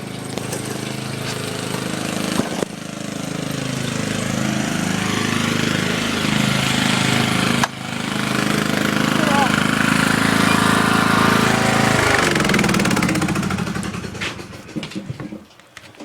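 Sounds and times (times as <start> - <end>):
lawn mower engine running: 0.0 - 15.5.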